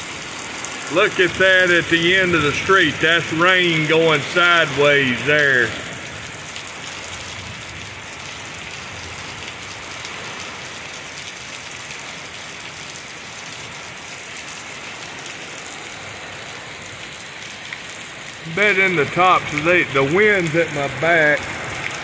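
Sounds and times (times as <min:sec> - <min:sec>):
torrential rain hissing: 0:00.0 - 0:22.0.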